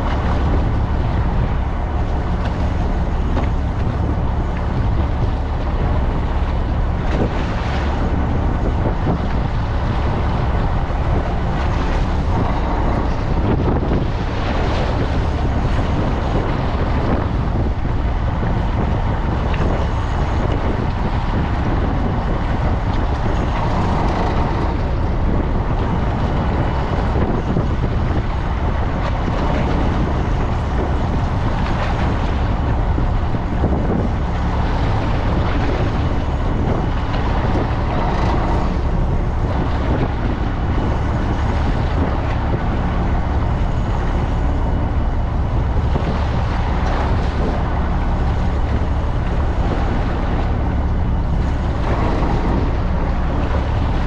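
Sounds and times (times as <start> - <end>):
boat engine running: 0.0 - 54.0
water rushing along hull: 0.0 - 54.0
wind buffeting microphone: 0.0 - 54.0.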